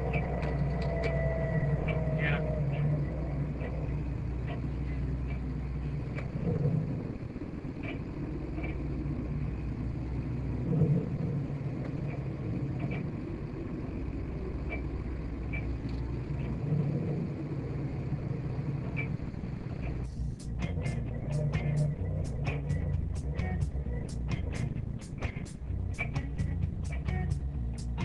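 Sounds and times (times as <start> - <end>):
boat engine rumbling: 0.0 - 28.0.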